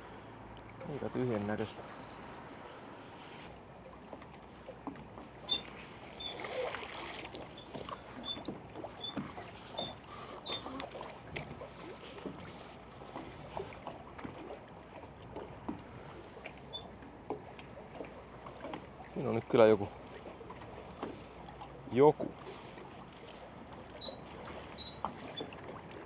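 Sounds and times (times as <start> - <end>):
water lapping and splashing: 0.0 - 26.0.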